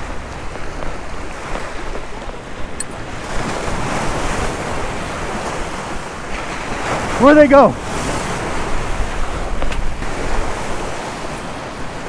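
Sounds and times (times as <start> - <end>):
waves breaking over rocks: 0.0 - 12.0
wind buffeting microphone: 0.0 - 12.0.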